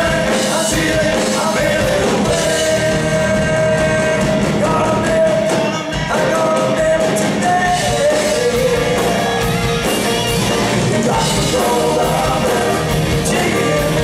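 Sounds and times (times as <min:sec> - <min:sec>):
bass: 0:00.0 - 0:14.0
drums: 0:00.0 - 0:14.0
electric guitars: 0:00.0 - 0:14.0
keyboard: 0:00.0 - 0:14.0
lead vocals: 0:00.0 - 0:14.0.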